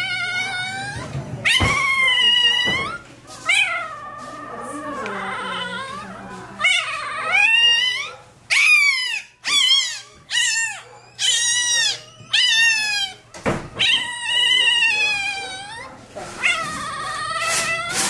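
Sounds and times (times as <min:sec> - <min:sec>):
puppy yelping: 0:00.0 - 0:18.0.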